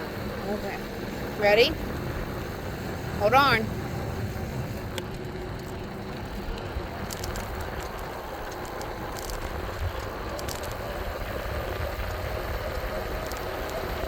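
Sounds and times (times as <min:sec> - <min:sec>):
road noise from moving bike: 0:00.0 - 0:14.0
wind noise: 0:00.0 - 0:14.0
small crackles and ticks: 0:00.3 - 0:14.0.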